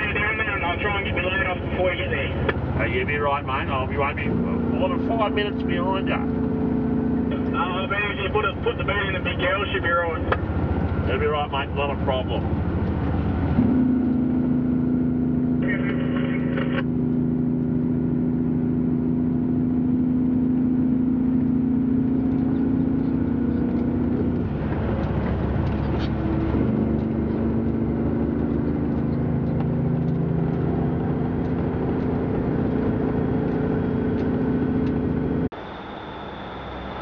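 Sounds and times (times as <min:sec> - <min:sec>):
truck engine droning: 0:00.0 - 0:37.0.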